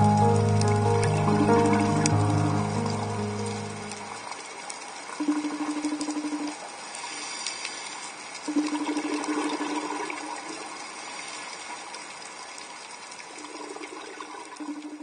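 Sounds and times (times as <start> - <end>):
rushing bubbling water: 0.0 - 15.0.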